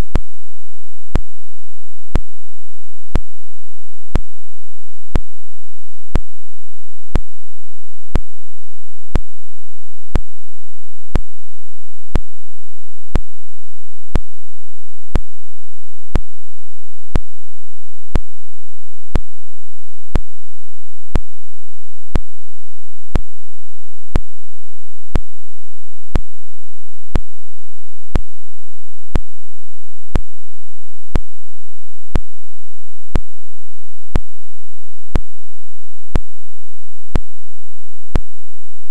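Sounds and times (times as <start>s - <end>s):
faint steady hiss and hum: 0.0s - 38.9s.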